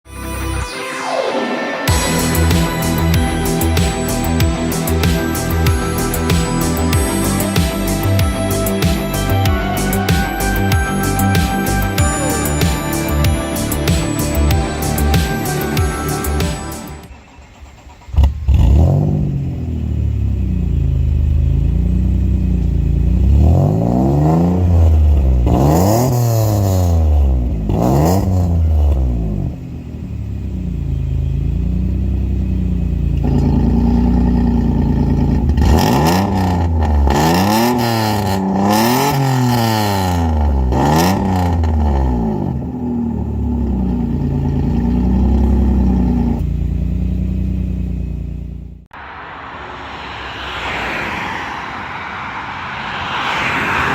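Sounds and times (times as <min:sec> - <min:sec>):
car engine idling and revving: 0:01.9 - 0:53.9.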